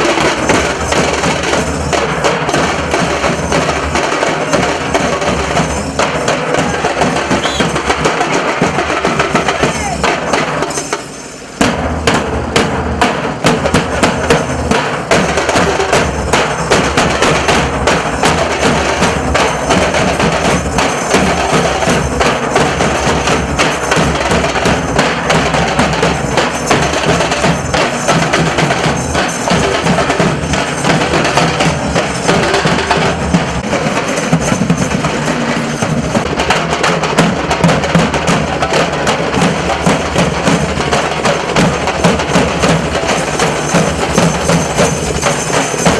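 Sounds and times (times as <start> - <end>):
dhol drums playing: 0.0 - 45.9.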